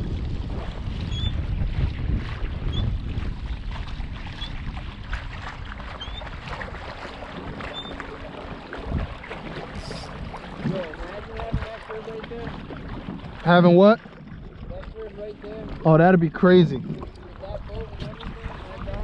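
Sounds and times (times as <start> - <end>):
water lapping against kayak hull: 0.0 - 19.0
wind buffeting microphone: 0.0 - 19.0.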